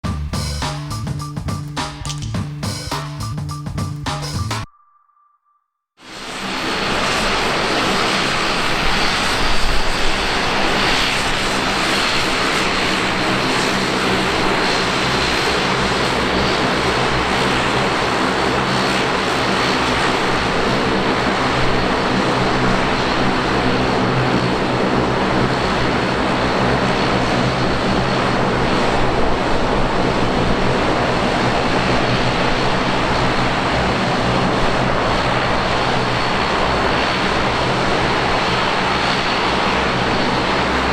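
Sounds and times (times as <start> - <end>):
thin steady engine whine: 6.1 - 40.9
turboprop propeller drone: 6.1 - 40.9.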